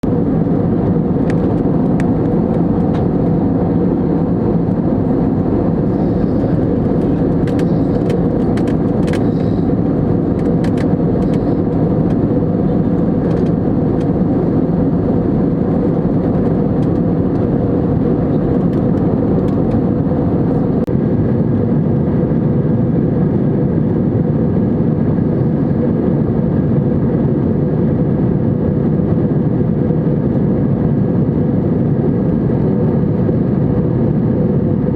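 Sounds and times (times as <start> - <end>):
airplane cabin engine drone: 0.0 - 34.9.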